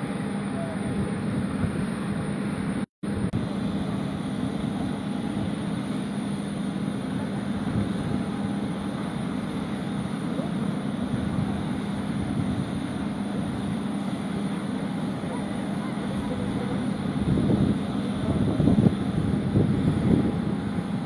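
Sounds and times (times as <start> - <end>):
jet turbine humming: 0.0 - 21.0.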